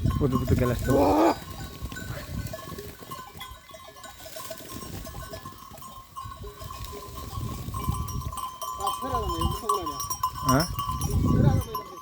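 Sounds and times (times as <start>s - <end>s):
bell-like clinks: 0.0s - 12.0s
thin steady ring: 2.0s - 12.0s.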